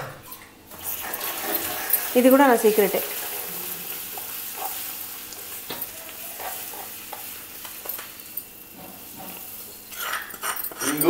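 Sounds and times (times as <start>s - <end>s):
flour sizzling in hot oil: 0.7s - 10.5s.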